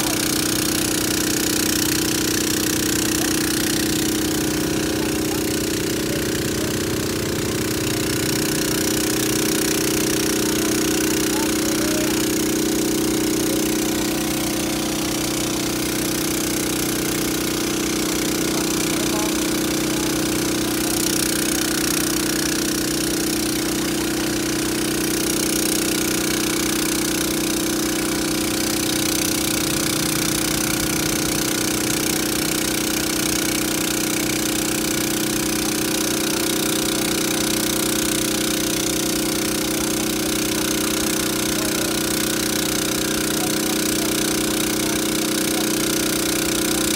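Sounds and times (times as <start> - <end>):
hose spraying water on road: 0.0 - 46.9
truck engine and pump rattling: 0.0 - 46.9.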